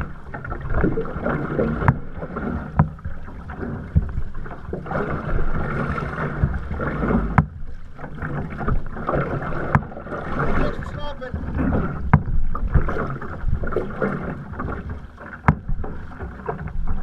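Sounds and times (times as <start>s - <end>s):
water splashing around canoe hull: 0.0s - 17.0s.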